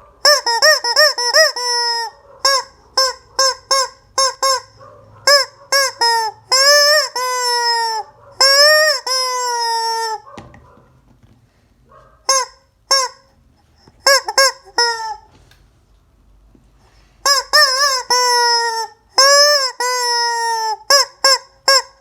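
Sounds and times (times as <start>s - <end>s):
squeaky chicken toy squawks: 0.2s - 10.4s, 12.3s - 15.4s, 17.2s - 22.0s.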